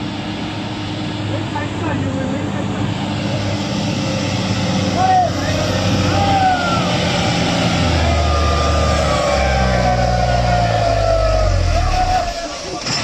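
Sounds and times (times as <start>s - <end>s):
diesel truck engine labouring: 0.0s - 13.0s.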